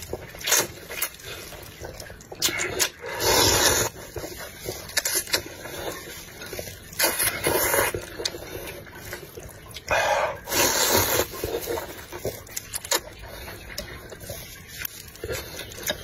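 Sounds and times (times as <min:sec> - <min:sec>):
person slurping noodles: 0:00.2 - 0:14.4.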